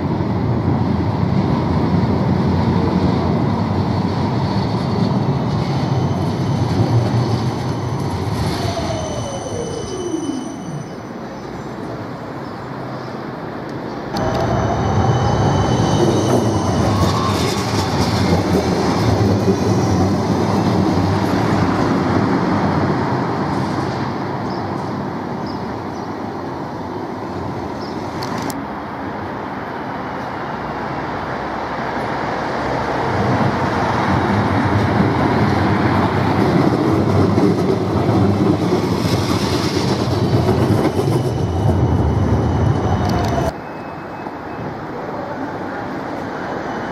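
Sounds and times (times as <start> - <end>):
tram wheels rumbling on rail: 0.0 - 46.9.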